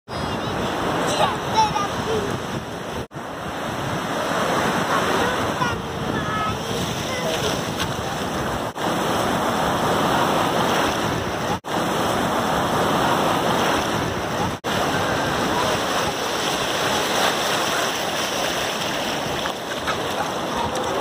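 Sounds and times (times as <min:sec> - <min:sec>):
waves breaking on sand: 0:00.4 - 0:21.0.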